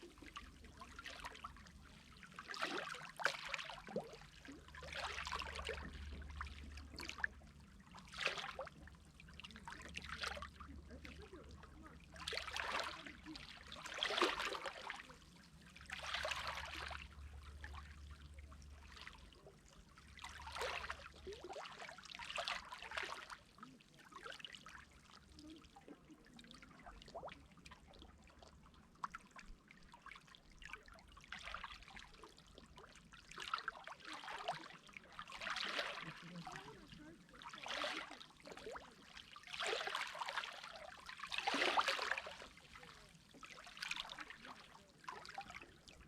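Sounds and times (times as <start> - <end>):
small waves lapping at shore: 0.0 - 28.3, 29.0 - 46.0.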